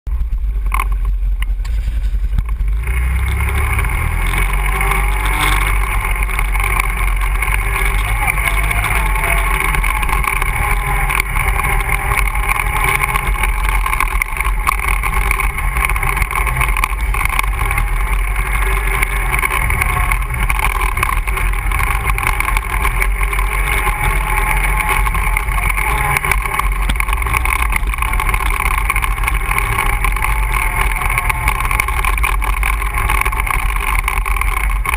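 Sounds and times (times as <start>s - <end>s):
atv engine running: 0.0s - 34.9s.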